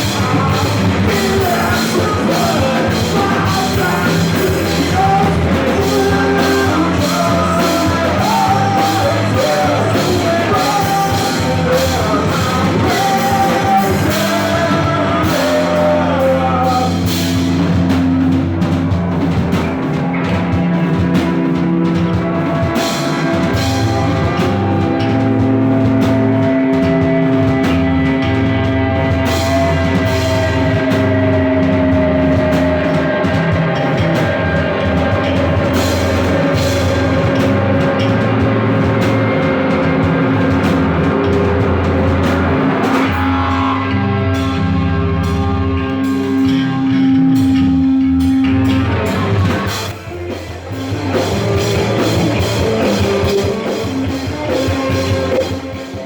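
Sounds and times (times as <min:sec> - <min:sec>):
person singing: 0:00.0 - 0:18.7, 0:21.9 - 0:56.0
bass guitar: 0:00.0 - 0:56.0
drum kit: 0:00.0 - 0:56.0
electric guitar: 0:00.0 - 0:56.0.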